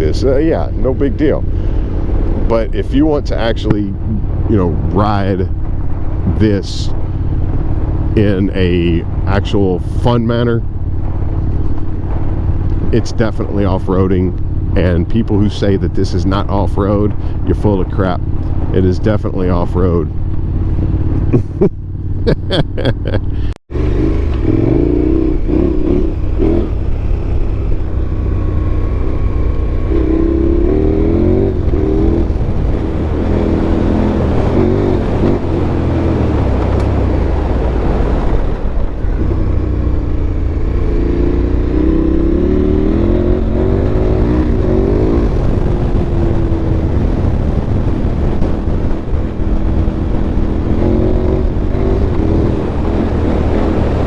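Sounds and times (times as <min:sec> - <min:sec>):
motorcycle engine under load: 0:00.0 - 0:54.0.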